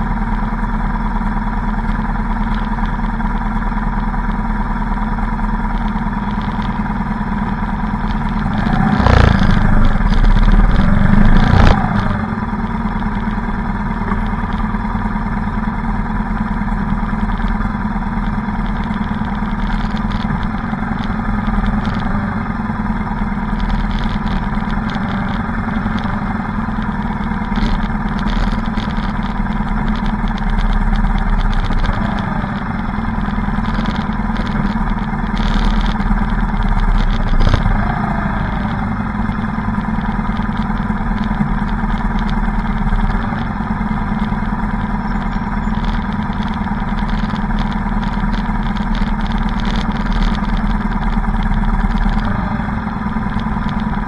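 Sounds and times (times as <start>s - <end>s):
motorcycle engine revving: 0.0s - 54.0s
motorcycle engines droning: 0.0s - 54.0s.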